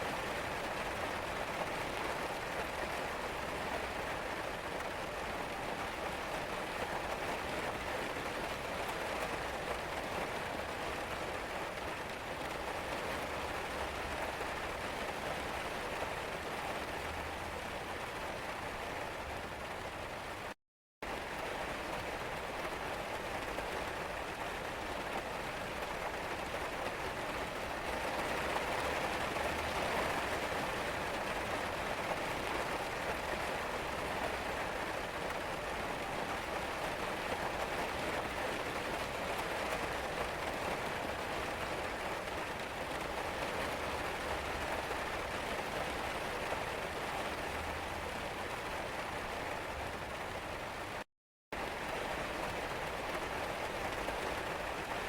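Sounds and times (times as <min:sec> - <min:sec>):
steady rain tapping on surfaces: 0:00.0 - 0:55.0.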